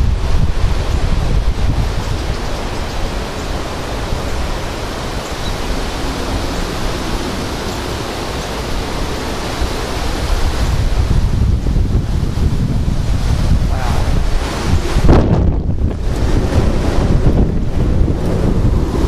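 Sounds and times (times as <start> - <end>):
strong wind rushing: 0.0 - 19.0
wind buffeting microphone: 0.0 - 19.0.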